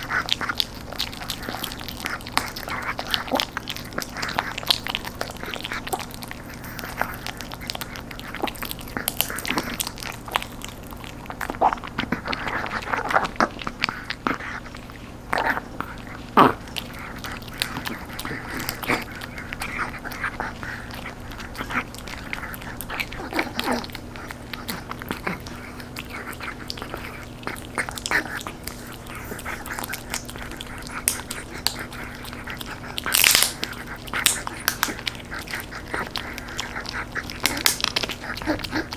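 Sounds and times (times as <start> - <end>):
dog crunching a bone treat: 0.0 - 38.9
teeth clicking on bone: 0.0 - 38.9.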